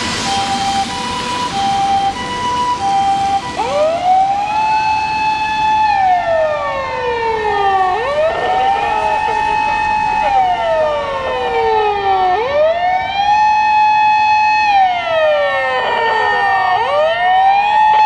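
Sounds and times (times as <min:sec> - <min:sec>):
ambulance siren: 0:00.0 - 0:18.0.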